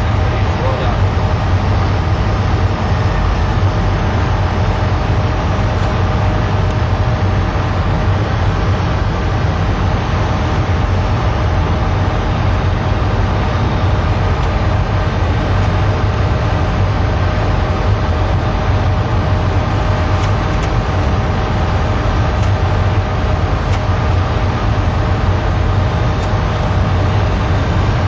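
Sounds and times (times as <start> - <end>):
airplane cabin engine drone: 0.0 - 28.0
faint steady tones: 0.0 - 28.0.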